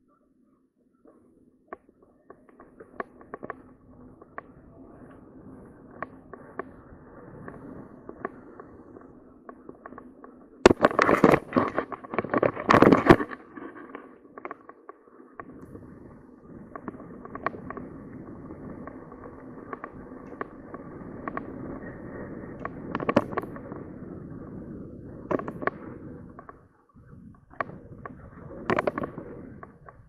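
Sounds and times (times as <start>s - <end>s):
bike rattles and clicks: 1.7s - 30.0s.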